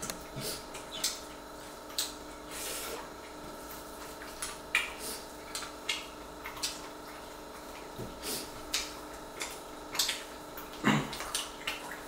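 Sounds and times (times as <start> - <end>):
wet chewing smacks: 0.0 - 12.0.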